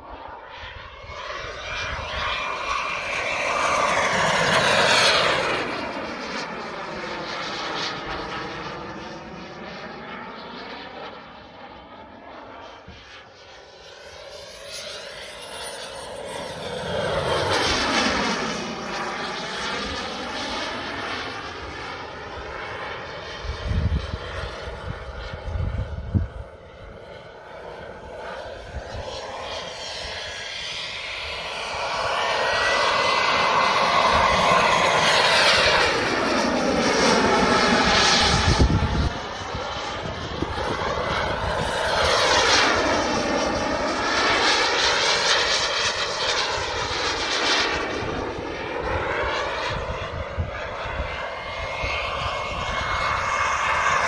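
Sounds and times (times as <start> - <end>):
model jet turbine whine: 0.0 - 54.0.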